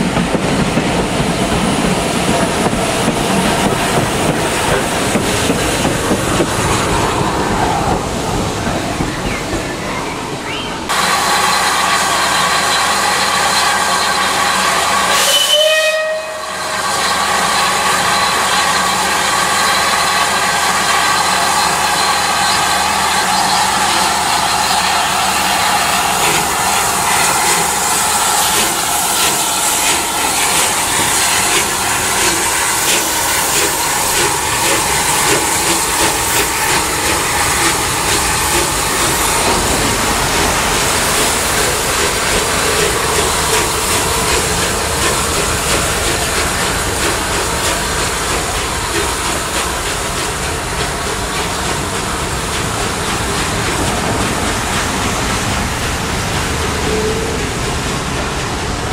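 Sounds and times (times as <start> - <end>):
train wheels clicking over rails: 0.0 - 15.4, 16.7 - 58.9
steam locomotive hissing and exhaust: 0.0 - 58.9.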